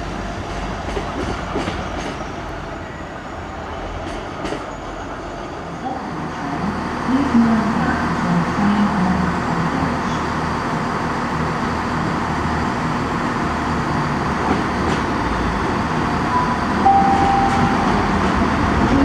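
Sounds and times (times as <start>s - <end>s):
diesel train engines rumbling: 0.0s - 19.0s.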